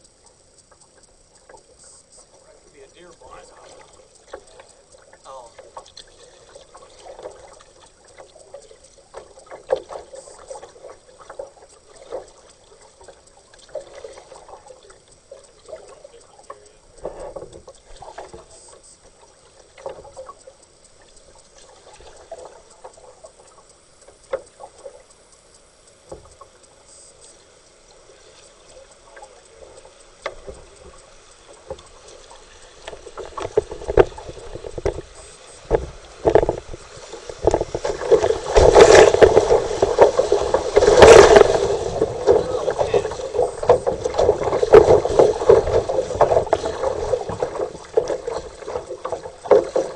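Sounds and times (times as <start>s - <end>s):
paddle knocking: 0.0s - 25.0s, 26.0s - 49.9s
kayak paddle splashes: 0.0s - 49.9s.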